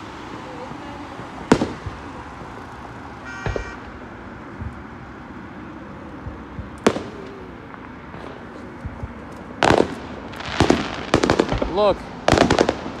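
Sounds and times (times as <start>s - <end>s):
firework shells bursting: 1.2s - 5.1s, 6.3s - 13.0s.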